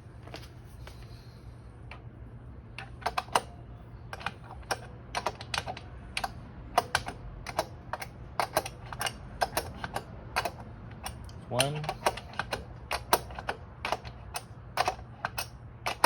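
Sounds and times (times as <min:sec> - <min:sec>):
steady low hum: 0:00.0 - 0:16.0
wrench clicking: 0:02.8 - 0:16.0.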